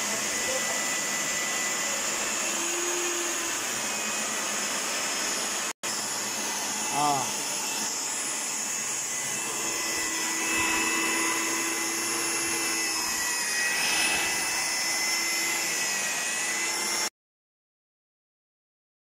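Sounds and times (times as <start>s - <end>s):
core drill motor whine: 0.0s - 17.2s.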